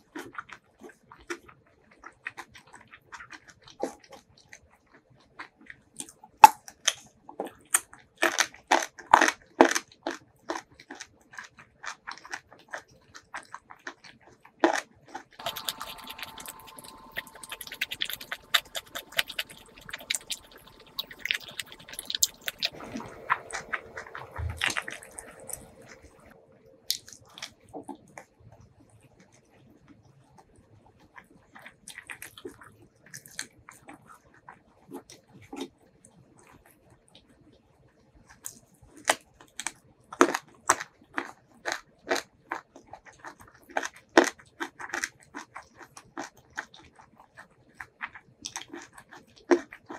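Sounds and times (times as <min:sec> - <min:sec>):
crunching bites and chews: 0:00.0 - 0:28.3, 0:31.1 - 0:36.7, 0:38.3 - 0:49.9
wet chewing: 0:00.0 - 0:29.4, 0:30.0 - 0:37.3, 0:38.2 - 0:49.9
soft sticky eating sounds: 0:00.0 - 0:49.9.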